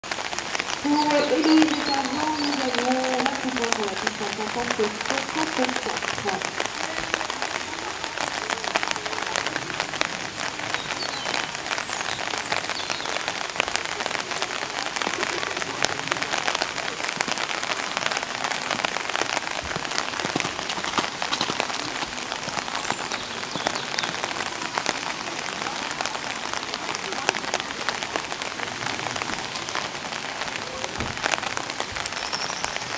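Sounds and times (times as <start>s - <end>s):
rain pattering: 0.0s - 32.9s.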